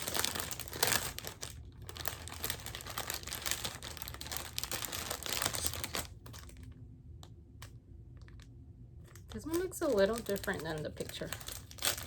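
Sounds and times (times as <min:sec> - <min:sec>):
plastic bag crinkling: 0:00.0 - 0:06.8, 0:09.0 - 0:12.0.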